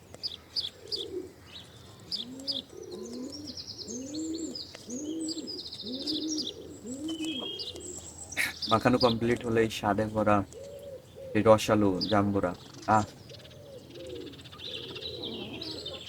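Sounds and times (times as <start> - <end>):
doves cooing: 0.0 - 16.0
small birds chirping: 0.0 - 16.0.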